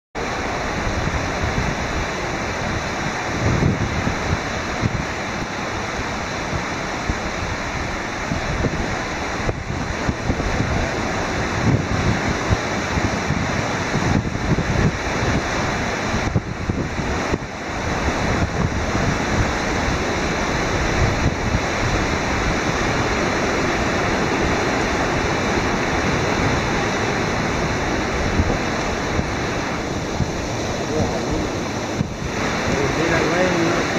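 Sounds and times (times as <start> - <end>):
ocean surf breaking: 0.2 - 33.9
wind rumbling on microphone: 0.2 - 33.9.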